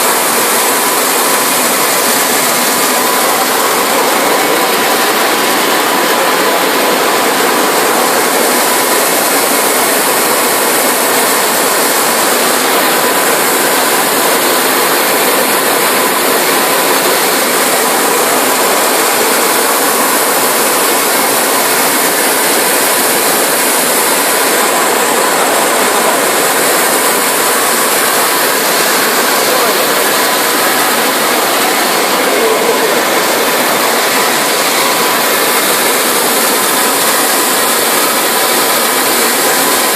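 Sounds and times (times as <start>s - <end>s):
faint steady whine: 0.0s - 39.9s
spraying water: 0.0s - 39.9s
washing machine running: 0.0s - 39.9s.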